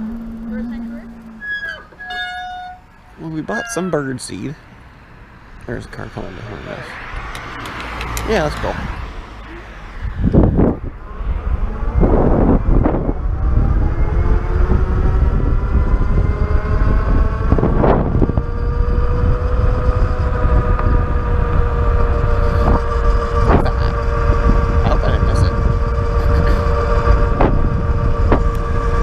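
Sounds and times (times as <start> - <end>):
electric bike motor whining: 0.0 - 29.0
wind rumble on microphone: 5.6 - 29.0.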